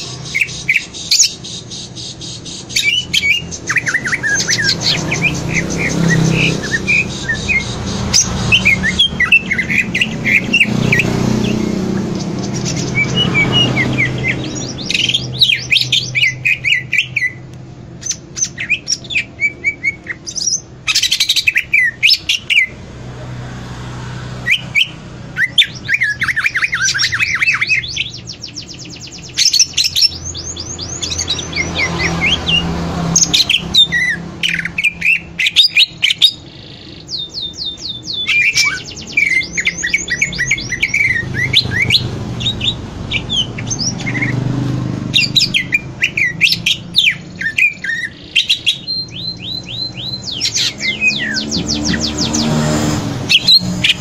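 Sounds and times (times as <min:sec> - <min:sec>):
bird singing whistled trills: 0:00.0 - 0:17.4, 0:18.0 - 0:22.8, 0:24.5 - 0:44.4, 0:45.1 - 0:52.6.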